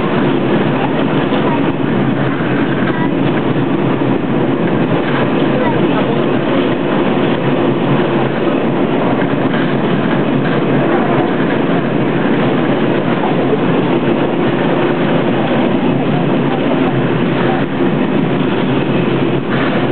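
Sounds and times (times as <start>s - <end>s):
tram wheels rumbling on rails: 0.0s - 19.9s.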